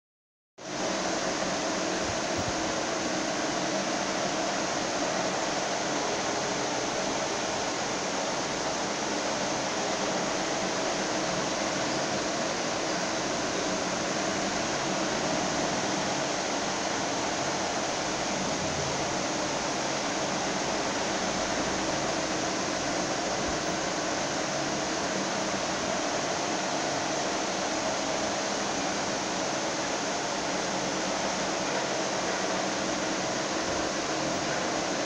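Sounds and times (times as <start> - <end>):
fan-like hiss: 0.6 - 35.0.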